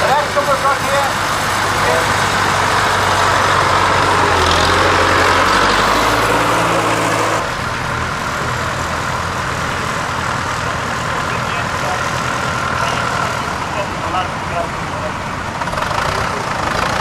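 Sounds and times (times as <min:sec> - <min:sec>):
diesel tractor engines running: 0:00.0 - 0:17.0.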